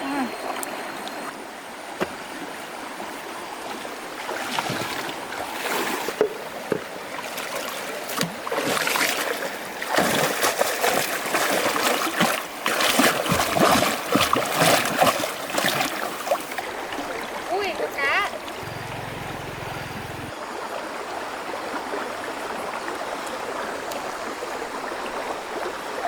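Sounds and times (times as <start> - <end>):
water splashing and sloshing: 0.2 - 26.0.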